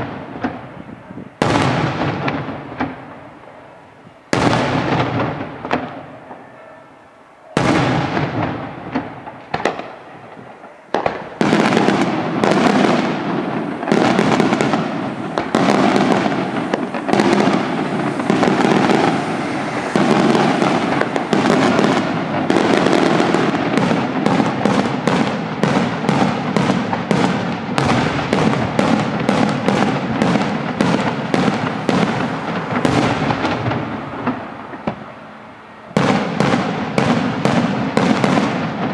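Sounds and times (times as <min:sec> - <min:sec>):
fireworks crackling: 0:00.0 - 0:38.9
fireworks exploding: 0:00.0 - 0:38.9.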